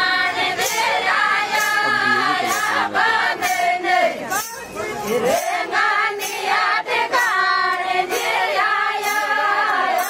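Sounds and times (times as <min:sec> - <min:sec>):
women singing folk song: 0:00.0 - 0:10.0.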